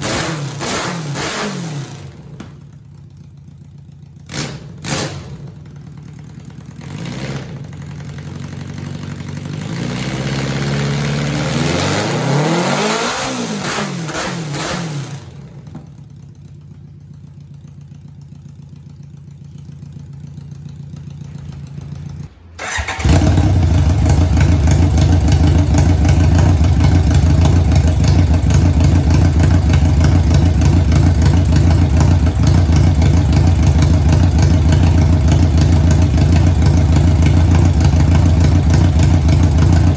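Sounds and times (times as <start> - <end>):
motorcycle engine idling: 2.0 - 11.1, 15.2 - 39.9.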